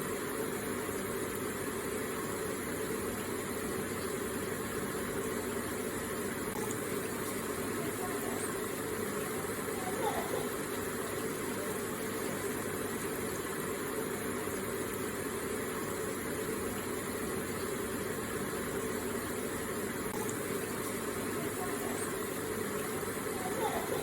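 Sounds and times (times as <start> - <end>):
water feature trickling and splashing: 0.0 - 24.0.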